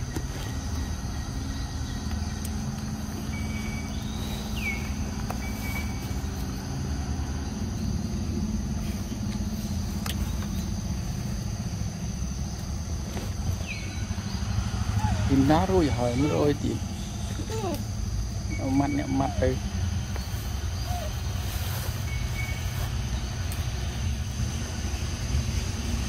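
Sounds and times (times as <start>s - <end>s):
faint insect drone: 0.0s - 26.0s.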